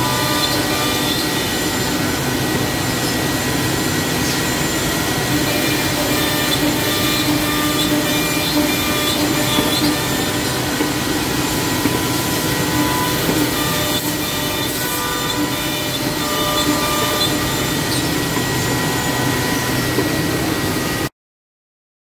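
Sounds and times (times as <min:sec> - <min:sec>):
woodworking machine with spindle whine: 0:00.0 - 0:21.1.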